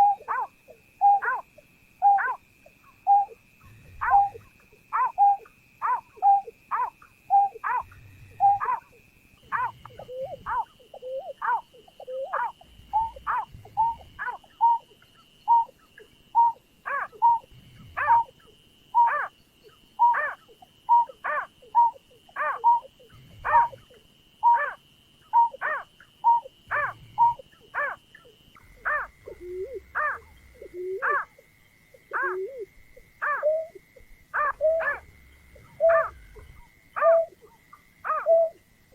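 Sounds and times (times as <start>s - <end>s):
bird hooting: 0.0s - 38.6s
faint steady high tone: 0.0s - 38.9s.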